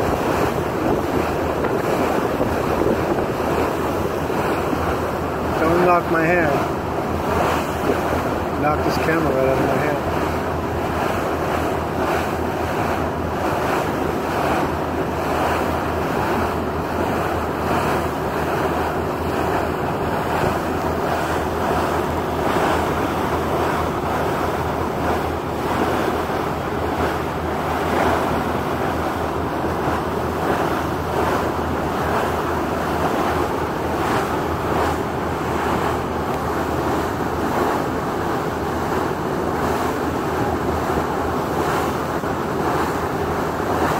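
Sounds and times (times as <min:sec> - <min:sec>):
low boat engine drone: 0:00.0 - 0:43.9
water rushing along hull: 0:00.0 - 0:43.9
wind buffeting microphone: 0:00.0 - 0:43.9.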